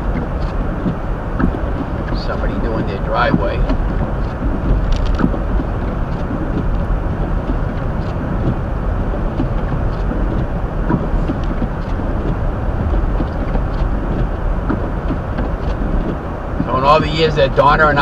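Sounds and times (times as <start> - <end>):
car road and tyre noise on snow: 0.0 - 18.0.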